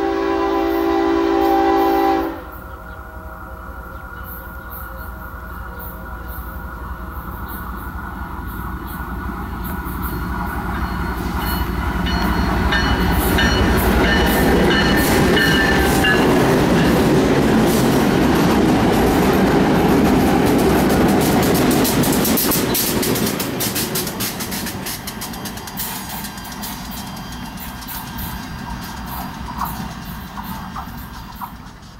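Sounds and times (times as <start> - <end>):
locomotive engines rumbling: 0.0 - 31.9
wheels clicking over rail joints: 3.9 - 31.9.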